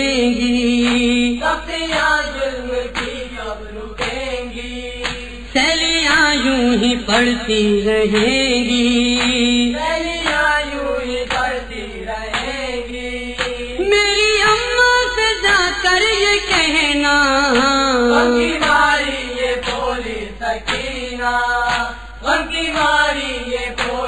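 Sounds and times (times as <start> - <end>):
man chanting a lament: 0.0 - 20.4
soft rhythmic thud: 0.7 - 5.4, 8.1 - 13.8, 14.4 - 16.9, 17.5 - 24.0.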